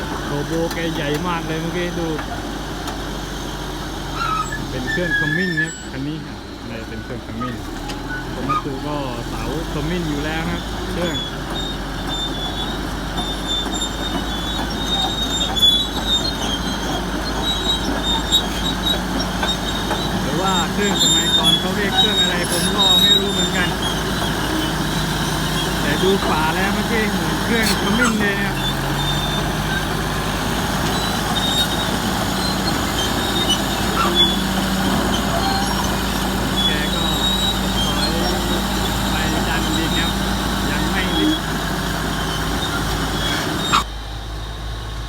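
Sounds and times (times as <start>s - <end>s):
bulldozer diesel engine running: 0.0s - 45.0s
steel tracks squealing: 0.0s - 45.0s.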